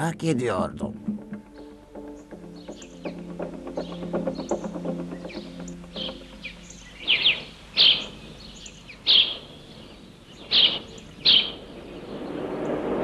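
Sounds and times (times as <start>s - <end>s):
faint bird chirps: 1.6s - 12.8s.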